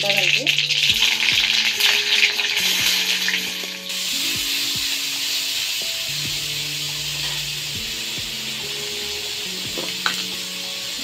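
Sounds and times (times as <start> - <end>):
onions sizzling in oil: 0.0 - 11.0
soft background music: 0.0 - 11.0.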